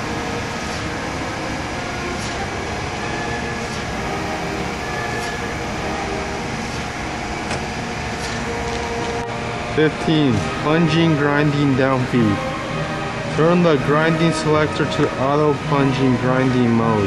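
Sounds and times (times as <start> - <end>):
surface grinder humming: 0.0 - 17.0.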